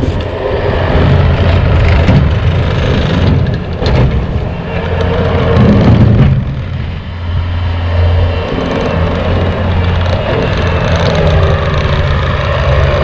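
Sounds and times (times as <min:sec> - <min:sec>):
diesel engine drone: 0:00.0 - 0:13.0
snowblower noisy rush: 0:00.0 - 0:13.0.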